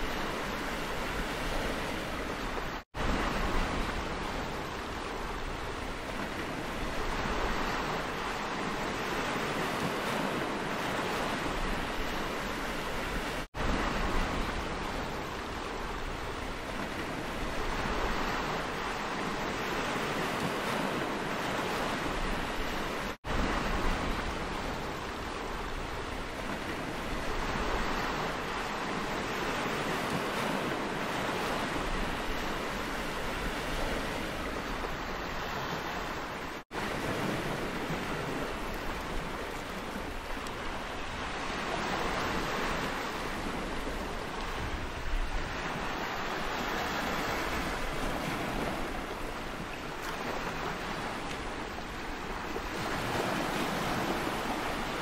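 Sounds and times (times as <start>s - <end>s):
surf washing onto stony beach: 0.0s - 55.0s
wind: 0.0s - 55.0s.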